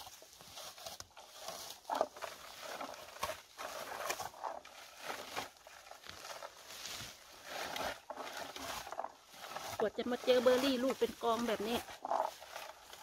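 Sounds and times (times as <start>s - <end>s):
berry picker rustling through bushes: 0.0s - 13.0s.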